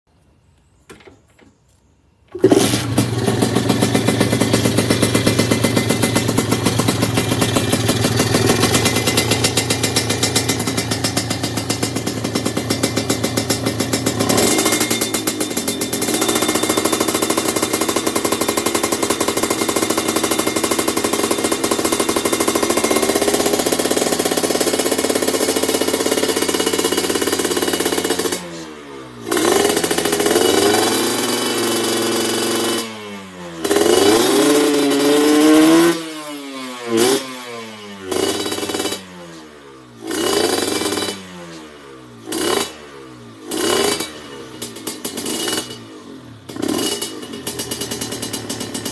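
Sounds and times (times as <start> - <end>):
motorcycle engine revving: 2.3 - 48.9.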